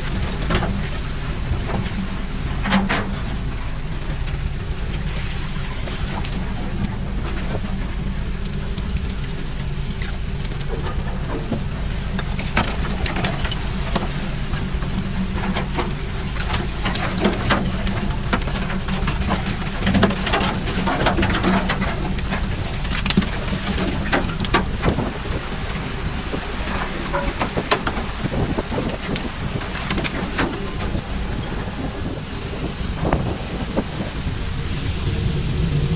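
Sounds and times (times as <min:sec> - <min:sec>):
knocks and clatter of fish handling: 0:00.0 - 0:05.1, 0:05.9 - 0:32.1
boat engine droning: 0:00.0 - 0:35.9.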